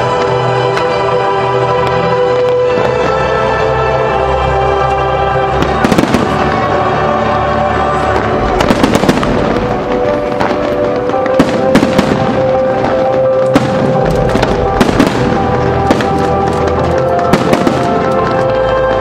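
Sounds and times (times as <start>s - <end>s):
fireworks bangs and crackles: 0.0s - 19.0s
loud music with held notes: 0.0s - 19.0s.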